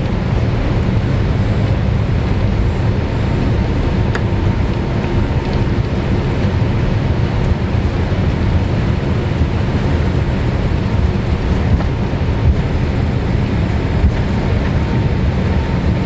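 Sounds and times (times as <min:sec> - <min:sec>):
aircraft engines and wheels rumbling: 0:00.0 - 0:16.0.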